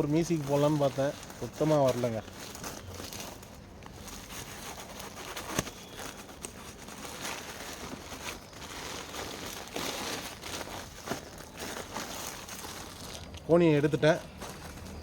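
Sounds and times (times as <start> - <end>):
sack packaging rustling: 0.0 - 15.0.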